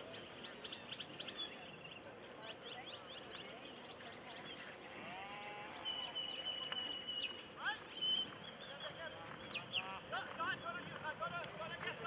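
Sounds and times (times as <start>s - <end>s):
faint birds chirping: 0.0s - 12.0s
low outdoor background noise: 0.0s - 12.0s.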